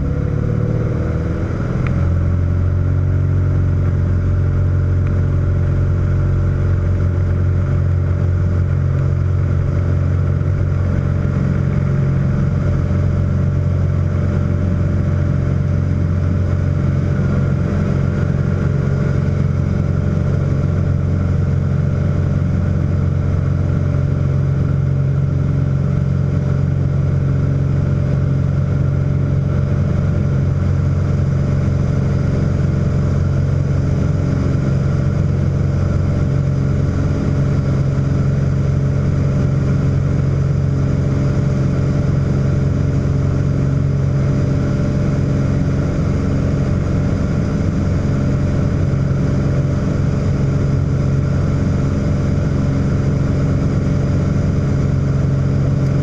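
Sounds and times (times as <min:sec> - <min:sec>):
airplane engine and propeller drone: 0:00.0 - 0:56.0.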